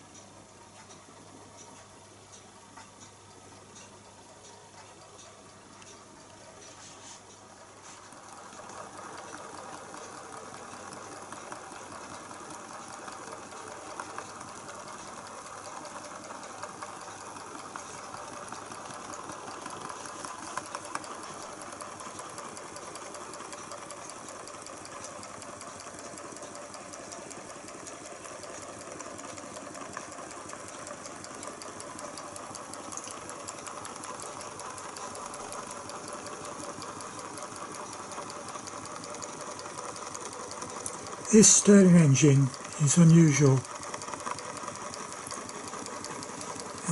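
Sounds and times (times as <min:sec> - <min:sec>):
model engine mechanical chatter: 0:01.5 - 0:46.9.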